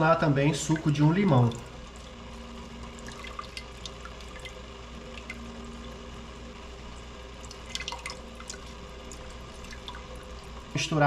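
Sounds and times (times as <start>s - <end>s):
low hum: 0.0s - 11.0s
juice dripping into a pot: 0.5s - 10.8s.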